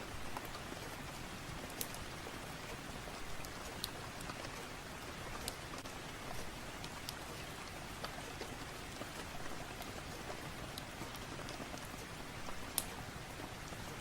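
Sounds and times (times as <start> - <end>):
fireplace crackling and popping: 0.0 - 14.0
steady rain falling: 0.0 - 14.0.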